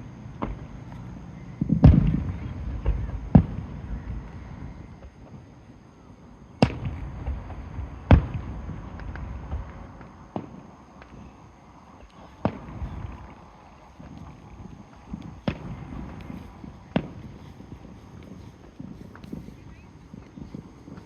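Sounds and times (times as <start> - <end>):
small fireworks pops: 0.3 - 5.6, 6.6 - 21.0
fireworks shells booming: 1.6 - 5.3, 6.6 - 11.3, 12.1 - 21.0.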